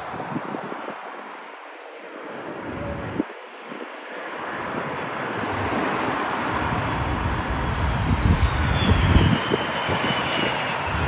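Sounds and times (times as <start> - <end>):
jet airliner landing: 0.0 - 11.0
wind buffeting microphone: 0.0 - 11.0.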